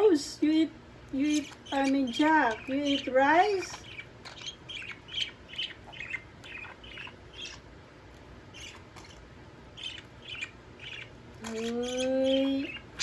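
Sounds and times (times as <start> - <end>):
budgerigars chirping: 1.2 - 7.7, 8.5 - 13.0.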